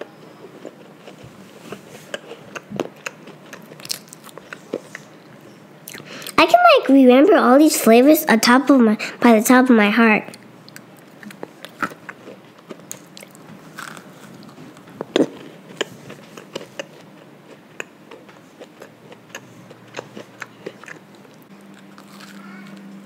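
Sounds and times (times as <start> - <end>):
close chewing and crunching: 0.0 - 6.4, 10.3 - 23.0.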